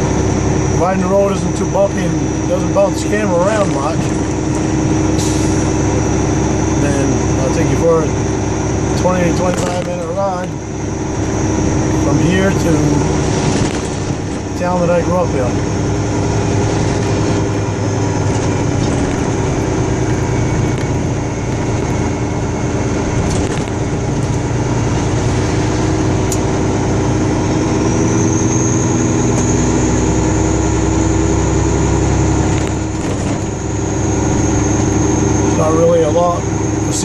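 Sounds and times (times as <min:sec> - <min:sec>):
road noise: 0:00.0 - 0:37.0
truck engine hum: 0:00.0 - 0:37.0.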